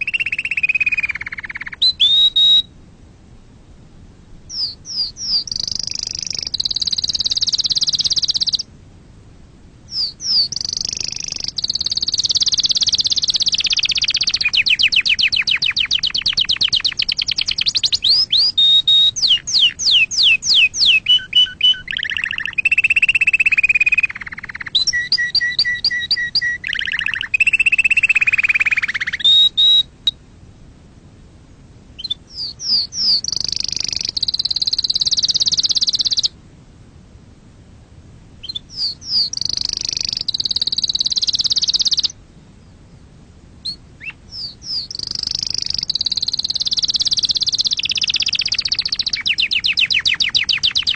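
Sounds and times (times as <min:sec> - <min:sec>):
canary singing trills: 0:00.0 - 0:02.7, 0:04.5 - 0:08.7, 0:09.9 - 0:30.2, 0:31.9 - 0:36.4, 0:38.4 - 0:42.9, 0:43.6 - 0:50.9.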